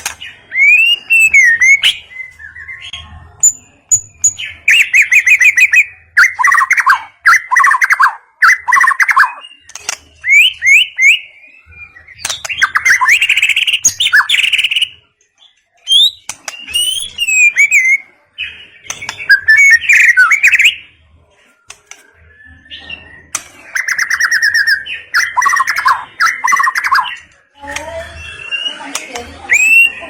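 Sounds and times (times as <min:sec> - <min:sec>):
bird singing whistled phrases: 0:00.5 - 0:02.9, 0:04.2 - 0:15.0, 0:15.8 - 0:18.1, 0:18.9 - 0:20.9, 0:22.2 - 0:27.2, 0:27.9 - 0:30.0.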